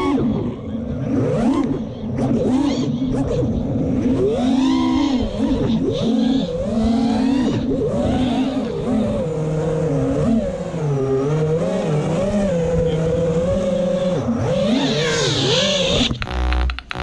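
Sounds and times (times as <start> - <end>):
drone motors whining: 0.9 - 17.0.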